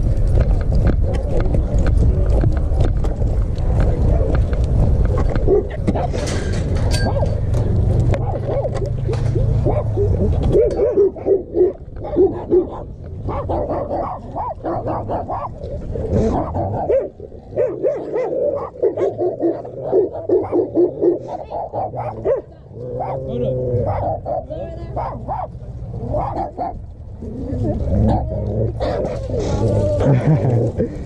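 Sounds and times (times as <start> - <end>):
dogs barking and whining: 5.1 - 30.5.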